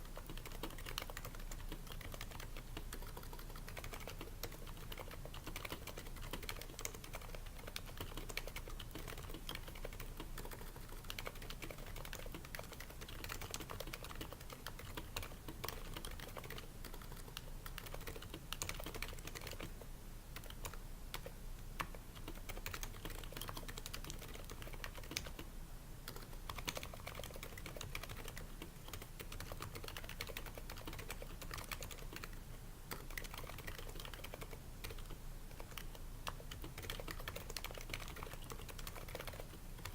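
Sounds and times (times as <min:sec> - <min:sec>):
keyboard typing: 0:00.0 - 0:25.5, 0:26.1 - 0:39.9.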